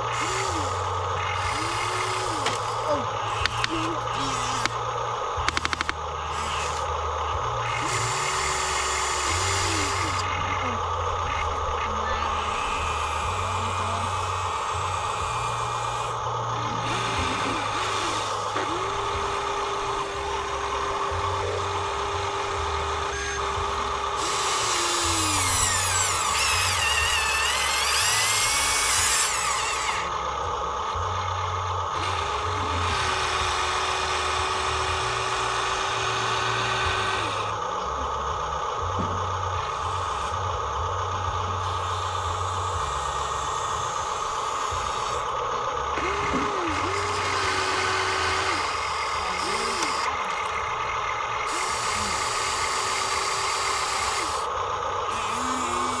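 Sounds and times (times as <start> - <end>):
toy machine motors whining: 0.0 - 56.0.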